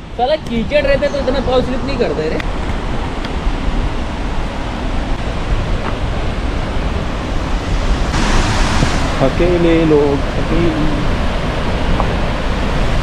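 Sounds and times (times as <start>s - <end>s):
waterfall roar: 0.5s - 13.0s.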